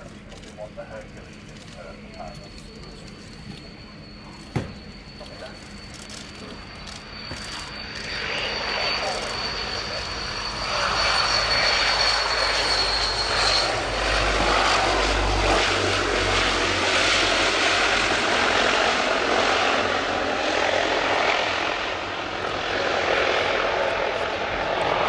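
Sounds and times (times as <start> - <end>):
turboprop engines running loud: 0.0 - 25.0
high whine: 2.0 - 25.0.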